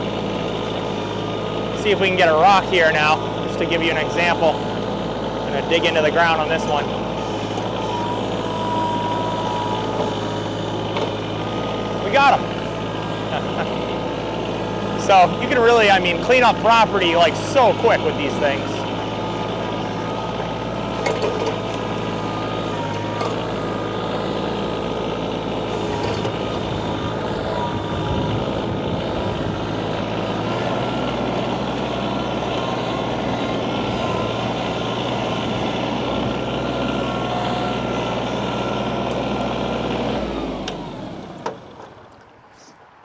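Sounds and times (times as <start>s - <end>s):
engine winding down: 0.0s - 43.0s
tractor diesel engine running: 0.0s - 43.0s.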